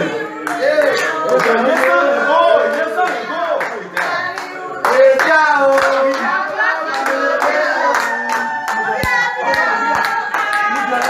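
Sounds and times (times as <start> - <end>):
people clapping in rhythm: 0.0 - 11.0
voices singing together: 0.0 - 11.0.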